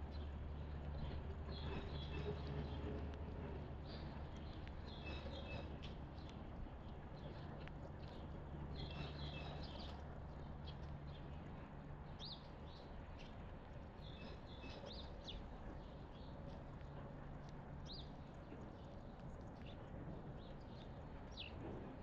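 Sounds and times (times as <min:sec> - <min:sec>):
small birds chirping: 0:03.8 - 0:22.0.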